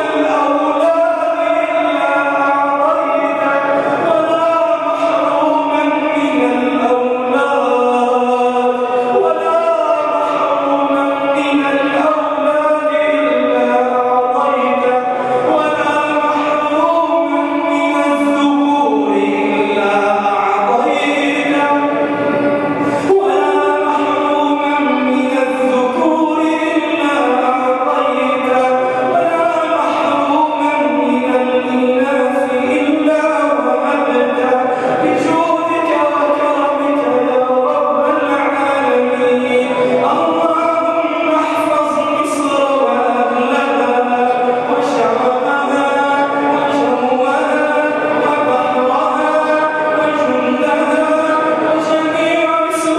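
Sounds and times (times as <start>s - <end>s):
man chanting over loudspeakers: 0.0s - 52.9s.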